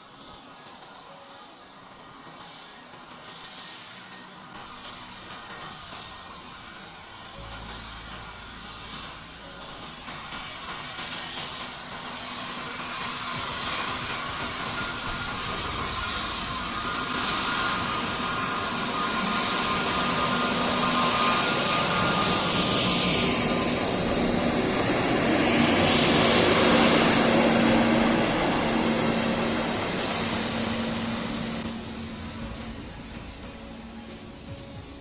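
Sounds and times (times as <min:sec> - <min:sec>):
jet engines passing by: 0:03.4 - 0:35.0.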